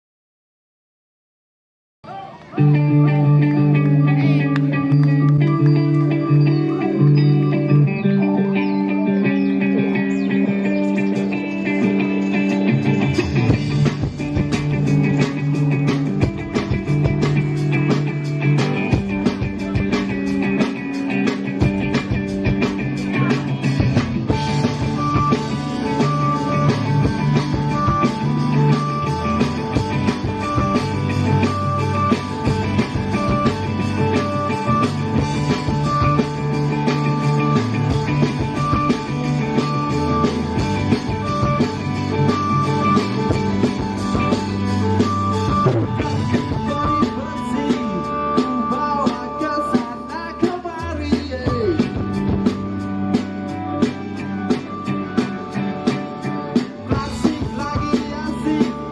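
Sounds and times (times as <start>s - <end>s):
rock band instrumental: 2.1s - 58.9s.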